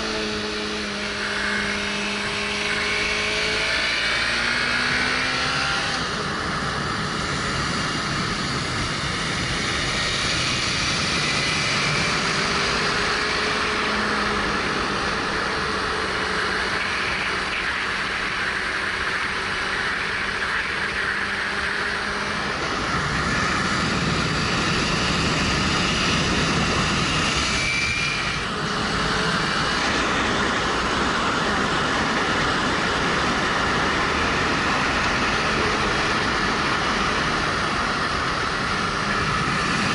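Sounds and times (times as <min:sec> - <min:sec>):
motorcycle engine running: 0:00.0 - 0:39.9
wind rushing over camera: 0:00.0 - 0:39.9.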